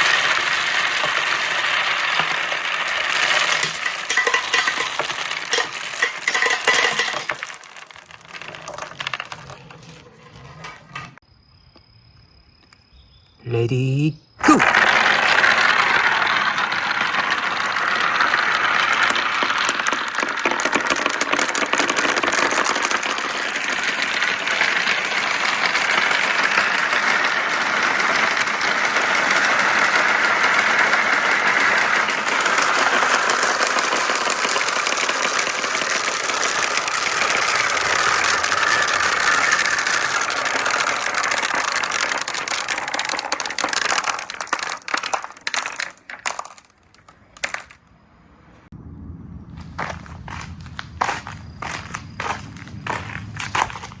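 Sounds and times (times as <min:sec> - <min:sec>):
marbles rattling down a track: 0:00.0 - 0:11.2, 0:14.5 - 0:47.8, 0:49.8 - 0:54.0.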